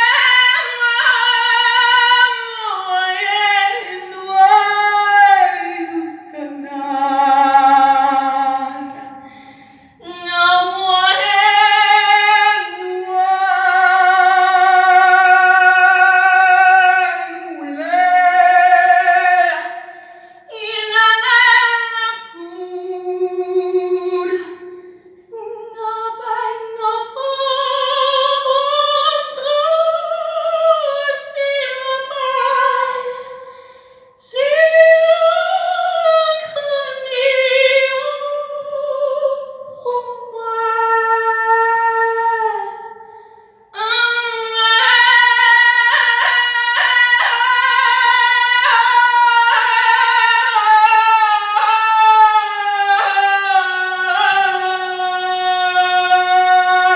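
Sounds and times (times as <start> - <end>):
woman singing with vibrato: 0.0 - 56.9.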